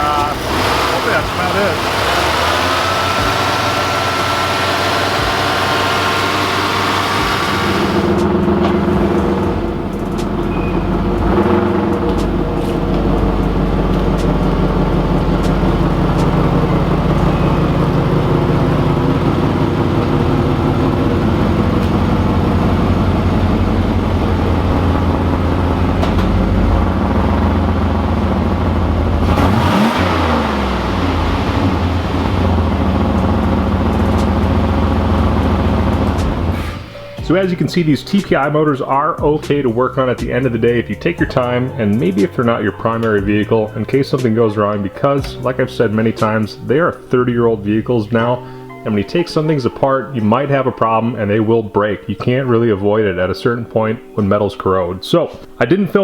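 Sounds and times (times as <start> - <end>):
car engine idling: 0.0 - 51.7.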